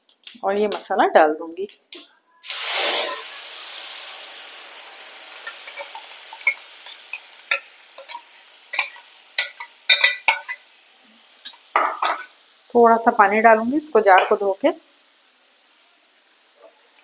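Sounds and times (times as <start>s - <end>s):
spice paste sizzling in hot oil: 2.4s - 17.0s.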